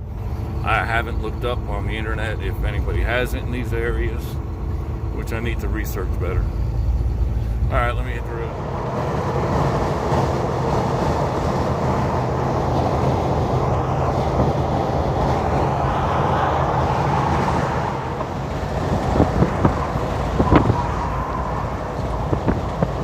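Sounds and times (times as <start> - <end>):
road noise: 0.0 - 23.0
truck engine drone: 0.0 - 23.0.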